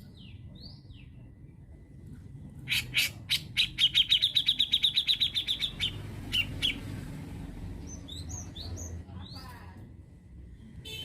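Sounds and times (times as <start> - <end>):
bird chirping song: 0.0 - 9.6.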